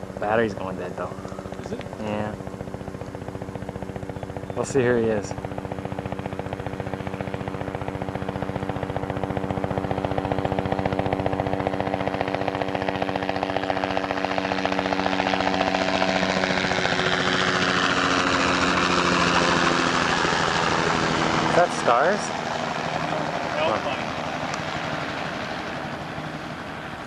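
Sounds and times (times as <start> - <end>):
helicopter rotor chop: 0.0 - 27.0.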